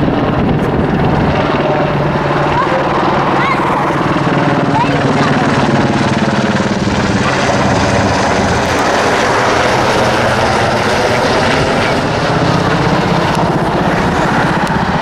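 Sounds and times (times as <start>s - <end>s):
helicopter rotor chopping: 0.0s - 15.0s
turbine engines running: 0.0s - 15.0s.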